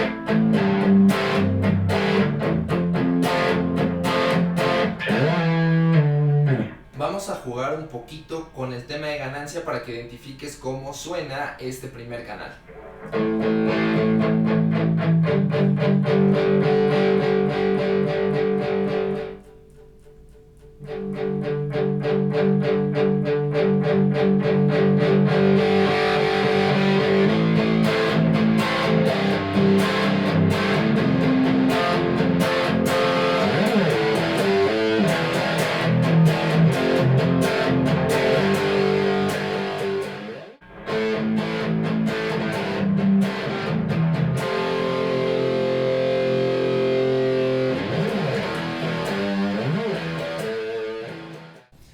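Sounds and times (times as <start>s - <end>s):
distorted electric guitar riffs: 0.0s - 7.0s, 12.6s - 51.7s.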